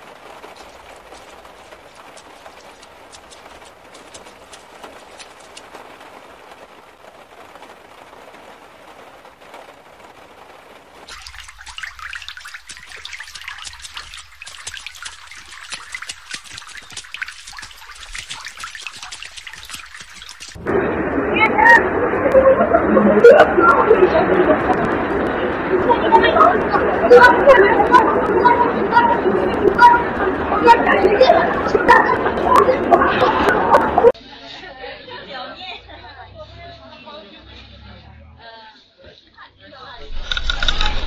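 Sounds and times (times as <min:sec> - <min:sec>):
crackling hiss: 0:00.0 - 0:34.2, 0:40.0 - 0:41.0
rain hiss with patters: 0:00.0 - 0:34.2, 0:39.4 - 0:41.0.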